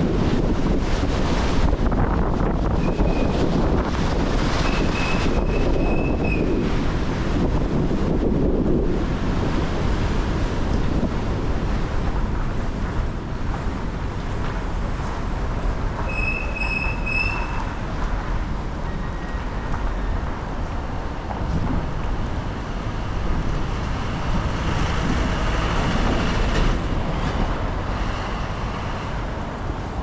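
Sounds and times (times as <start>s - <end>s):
tyres on wet road: 0.0s - 30.0s.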